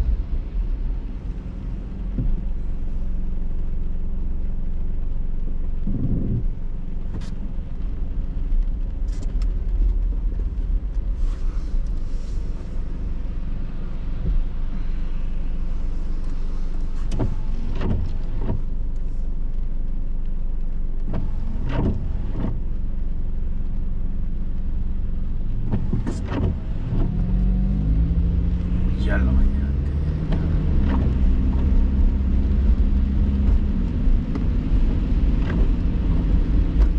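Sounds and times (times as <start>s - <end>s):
windshield wipers swishing: 0.0s - 3.0s, 5.7s - 22.8s, 23.4s - 36.9s
car road and engine rumble: 0.0s - 36.9s.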